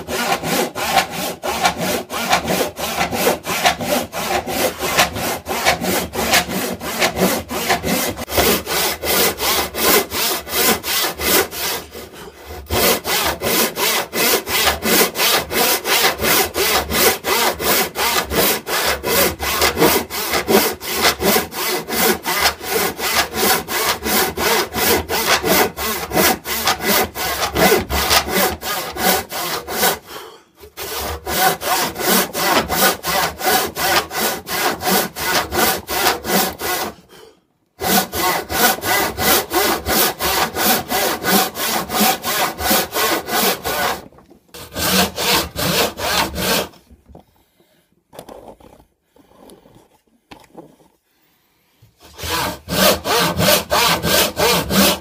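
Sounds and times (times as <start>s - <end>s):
hand saw cutting wood: 0.0s - 46.9s, 52.0s - 55.0s.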